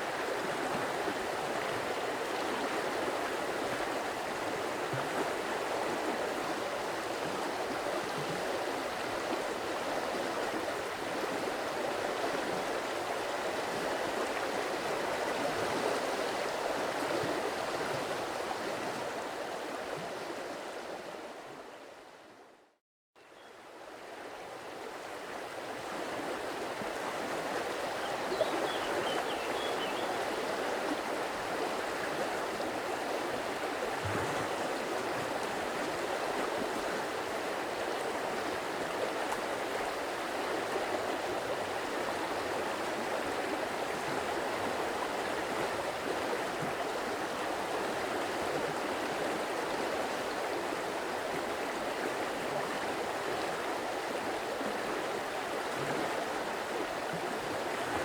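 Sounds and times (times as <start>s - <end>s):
stream water burbling: 0.0s - 22.0s, 23.6s - 58.0s.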